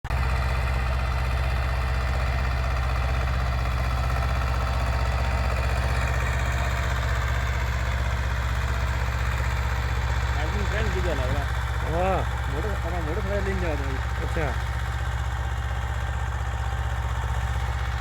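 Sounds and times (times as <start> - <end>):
tractor diesel engine idling: 0.1 - 18.0.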